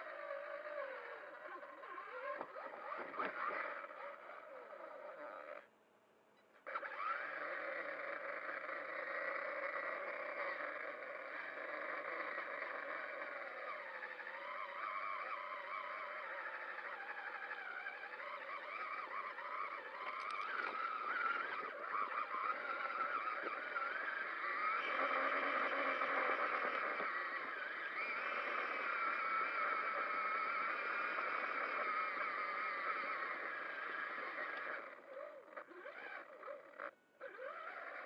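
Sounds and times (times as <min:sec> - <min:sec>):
toy truck electric motor whining: 0:00.0 - 0:05.7, 0:06.6 - 0:38.0.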